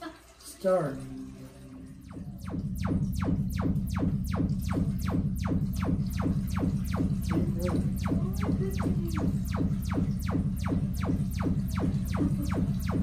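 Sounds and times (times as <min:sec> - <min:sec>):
steady low drone: 0:01.4 - 0:13.0.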